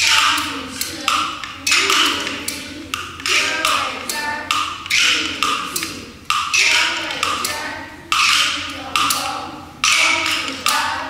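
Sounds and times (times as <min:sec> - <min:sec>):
bamboo clappers clacking: 0:00.0 - 0:11.0
boys chanting verse: 0:00.0 - 0:11.0.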